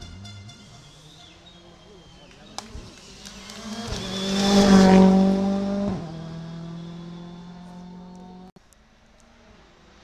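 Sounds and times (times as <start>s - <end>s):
rally car engine passing by: 0.0s - 8.5s.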